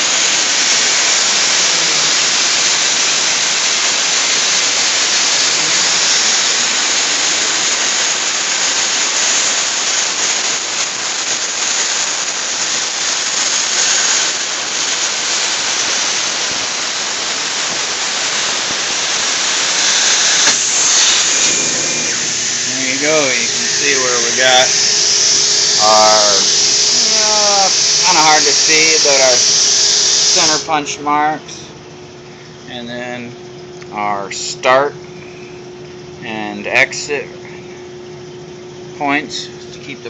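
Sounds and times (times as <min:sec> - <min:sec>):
plasma cutter hissing: 0:00.0 - 0:31.9, 0:39.0 - 0:40.0.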